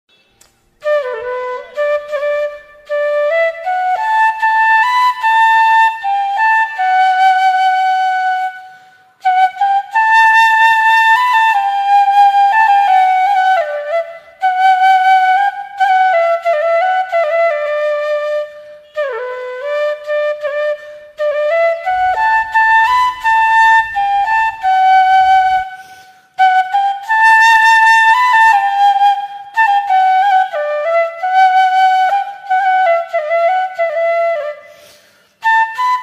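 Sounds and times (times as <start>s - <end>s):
solo flute melody: 0.1s - 36.0s.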